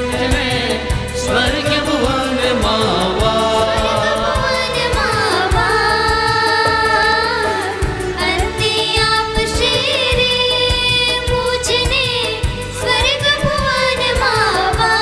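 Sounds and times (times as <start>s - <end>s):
devotional song with backing: 0.0s - 15.0s.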